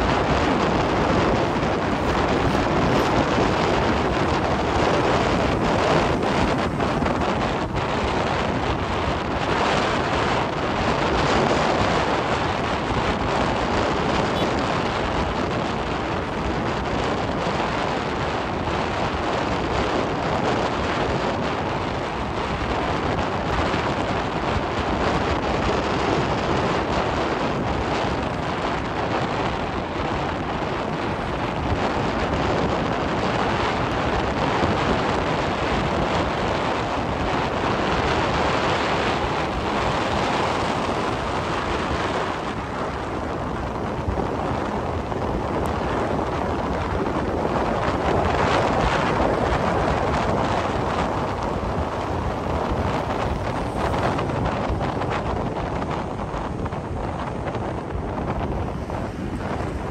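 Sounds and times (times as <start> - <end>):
tyre and road noise: 0.0 - 59.9
wind rushing over microphone: 0.0 - 59.9.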